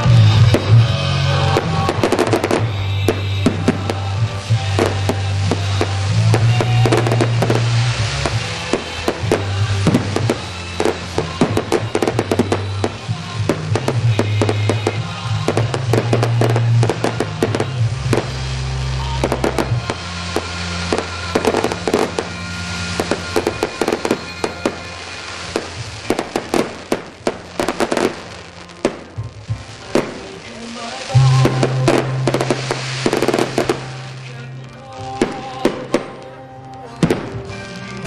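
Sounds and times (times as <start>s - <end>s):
fireworks bangs and crackles: 0.0s - 38.0s
music with steady bass: 0.0s - 38.0s.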